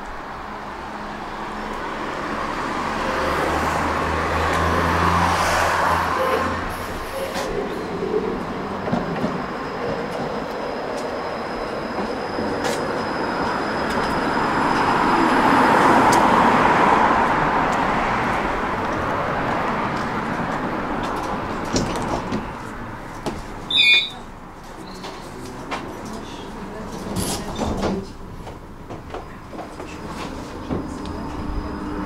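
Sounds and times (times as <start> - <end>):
tram wheels rolling on rails: 0.0 - 32.0.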